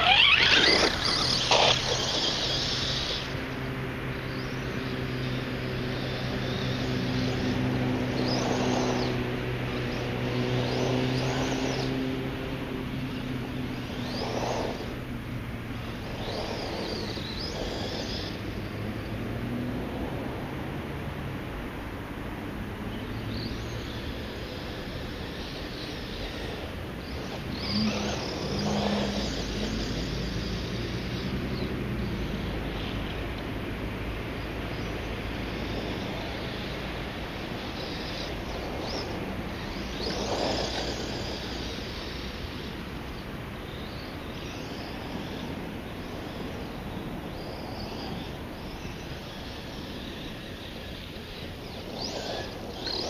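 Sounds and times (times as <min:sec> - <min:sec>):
electric rc car motor whine: 0:00.0 - 0:18.6, 0:23.3 - 0:33.2, 0:34.7 - 0:53.0.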